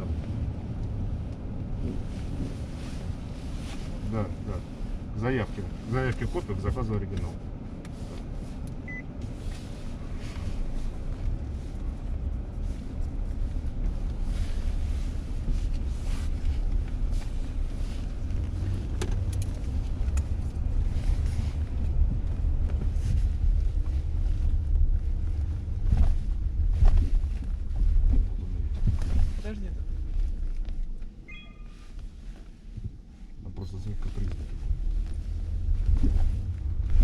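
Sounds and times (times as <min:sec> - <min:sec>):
low road and tyre rumble: 0:00.0 - 0:37.0.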